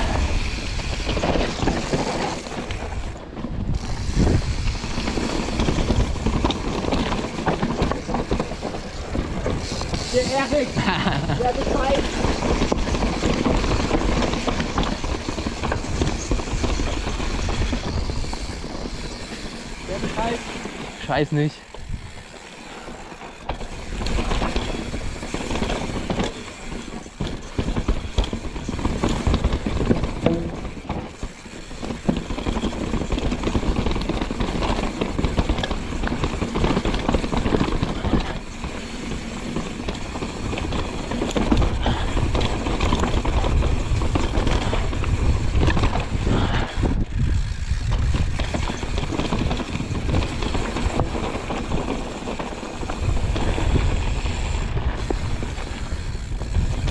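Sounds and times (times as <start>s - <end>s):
bike rattling and knocking: 0.0s - 56.9s
tyres running over dirt: 0.0s - 56.9s
wind rumbling on microphone: 0.0s - 56.9s.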